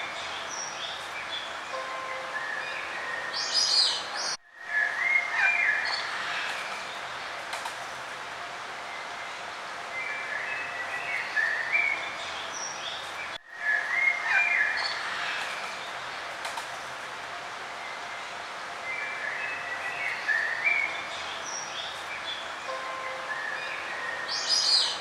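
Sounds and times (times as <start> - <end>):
songbirds singing: 0.0 - 7.4, 8.8 - 16.4, 17.8 - 25.0
outdoor background hiss: 0.0 - 25.0.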